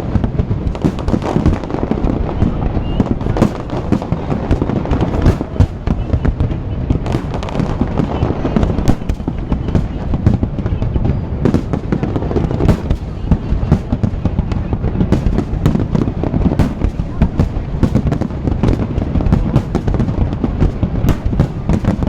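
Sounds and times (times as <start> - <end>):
fireworks bursting: 0.0 - 22.0
fireworks crackling: 0.0 - 22.0.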